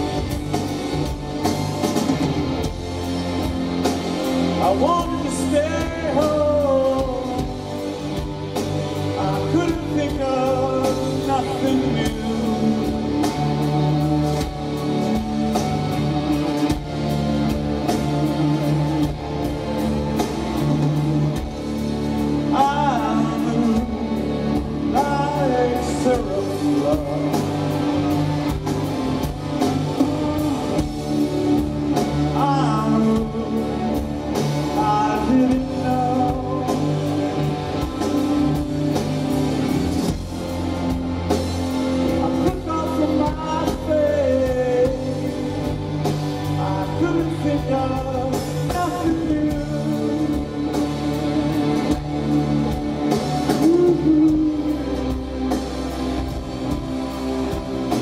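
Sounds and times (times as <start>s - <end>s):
bass guitar: 0.0s - 58.0s
drums: 0.0s - 58.0s
electric guitar: 0.0s - 58.0s
person singing lead vocal: 4.2s - 58.0s.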